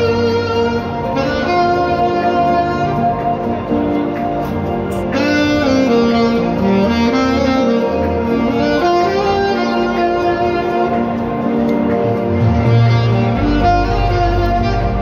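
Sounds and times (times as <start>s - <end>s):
alto saxophone melody: 0.0s - 15.0s
backing music: 0.0s - 15.0s.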